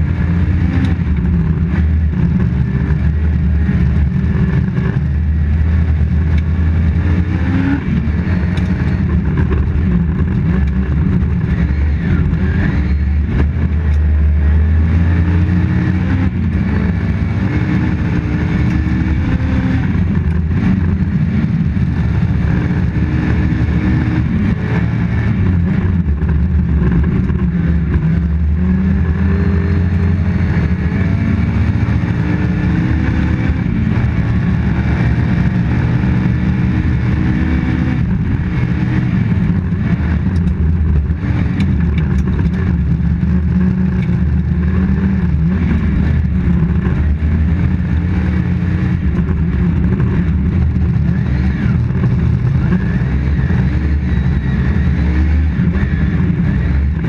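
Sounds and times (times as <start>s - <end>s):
car engine running hard: 0.0s - 57.0s
tyre and road noise: 0.0s - 57.0s.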